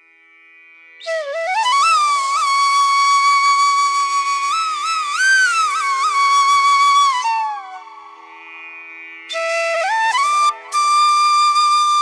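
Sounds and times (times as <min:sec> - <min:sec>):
flute holding a long note: 0:01.0 - 0:08.6, 0:09.3 - 0:12.0.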